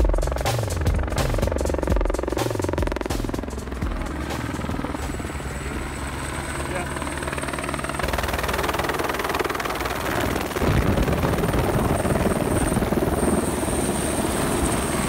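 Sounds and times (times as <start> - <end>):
helicopter rotor and engine: 0.0 - 15.0
high turbine whine: 0.0 - 15.0.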